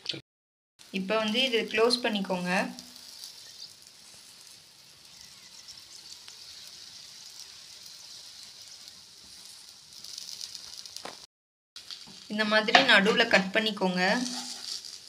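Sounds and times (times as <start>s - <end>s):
egg bread frying in oil: 0.8s - 15.0s.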